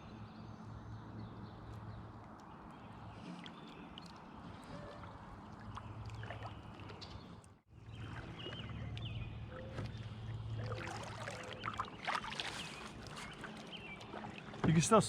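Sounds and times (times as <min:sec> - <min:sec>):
light water splashes: 0:01.7 - 0:15.0
kayak paddle dipping in water: 0:02.4 - 0:15.0.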